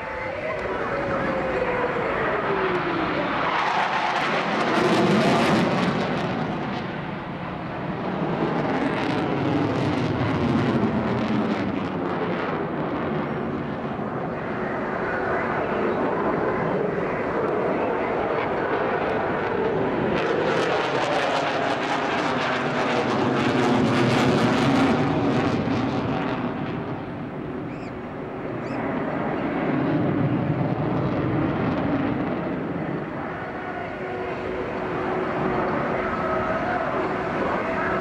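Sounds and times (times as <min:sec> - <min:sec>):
jet engine roar crackling: 0:00.0 - 0:38.0.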